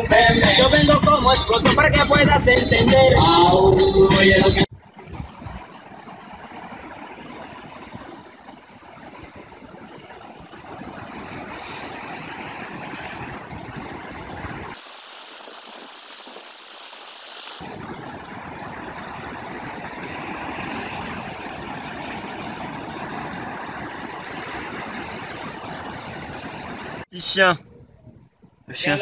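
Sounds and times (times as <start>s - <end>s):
ocean waves breaking: 0.0s - 28.1s.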